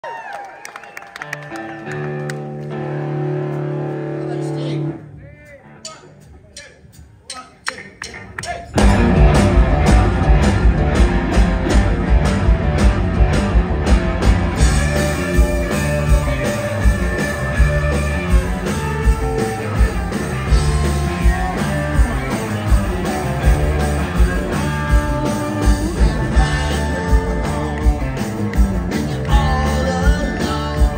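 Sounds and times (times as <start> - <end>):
rock band playing live: 1.2 - 30.9.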